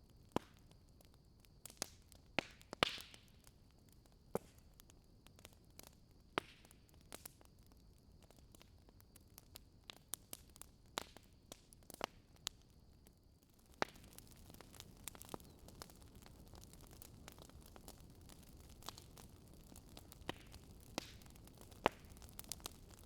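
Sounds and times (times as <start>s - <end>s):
fireplace fire crackling: 0.0s - 23.0s.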